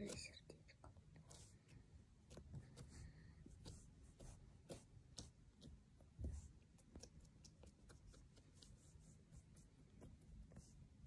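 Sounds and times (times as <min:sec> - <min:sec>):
fingertips tapping slime: 0:00.0 - 0:11.0.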